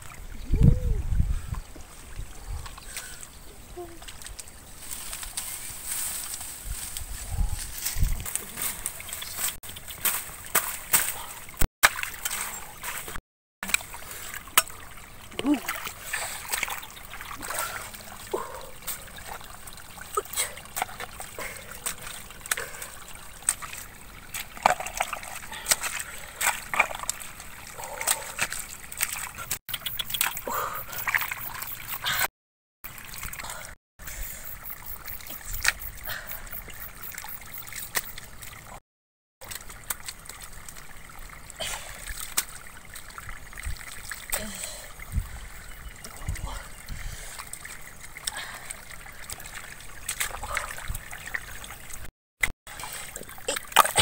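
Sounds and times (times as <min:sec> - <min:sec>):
muddy water splashing: 0:00.0 - 0:38.8, 0:39.4 - 0:54.0
mud squelching: 0:02.6 - 0:32.3, 0:32.9 - 0:38.8, 0:39.4 - 0:51.8, 0:52.7 - 0:54.0.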